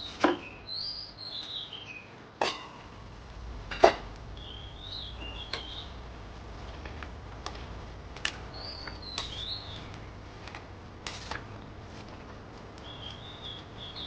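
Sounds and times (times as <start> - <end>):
low steady rumble: 2.6 - 14.0.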